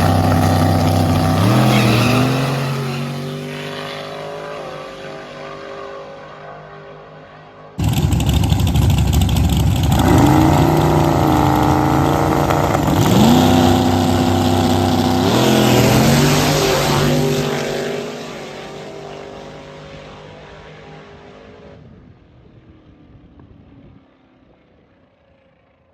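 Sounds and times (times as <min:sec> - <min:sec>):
cars accelerating at full throttle: 0:00.0 - 0:22.0.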